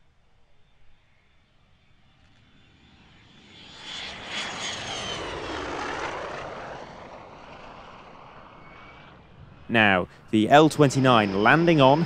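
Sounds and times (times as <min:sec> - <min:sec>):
jet passing by: 0:00.4 - 0:12.0.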